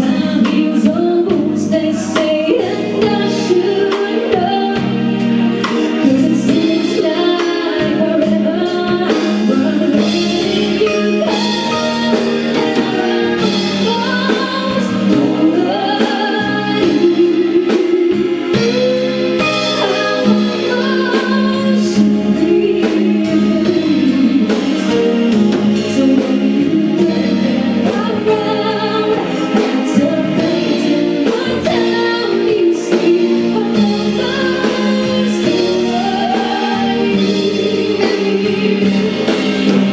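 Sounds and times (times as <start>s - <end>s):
drums: 0.0s - 39.9s
electric guitar: 0.0s - 39.9s
keyboards: 0.0s - 39.9s
woman singing: 0.0s - 39.9s.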